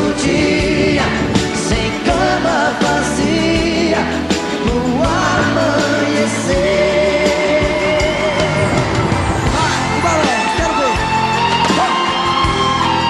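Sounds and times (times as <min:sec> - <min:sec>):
pop song with singing: 0:00.0 - 0:13.0.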